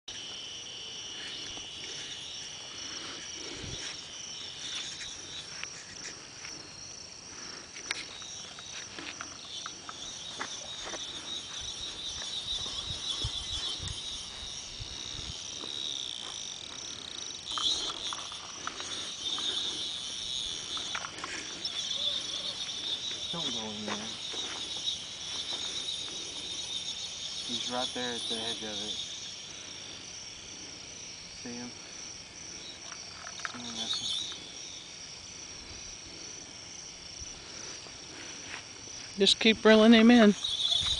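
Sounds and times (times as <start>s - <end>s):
crickets and night insects chorus: 0.1s - 40.9s.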